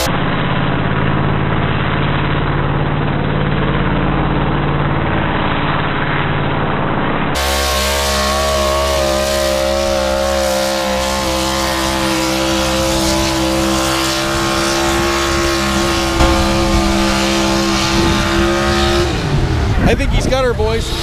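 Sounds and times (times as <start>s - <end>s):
pickup truck engine running hard: 0.0s - 21.0s.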